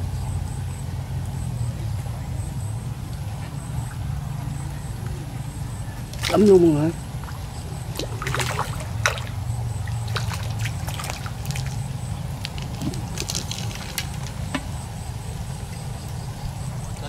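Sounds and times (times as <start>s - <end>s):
water sloshing and trickling: 2.0s - 17.0s.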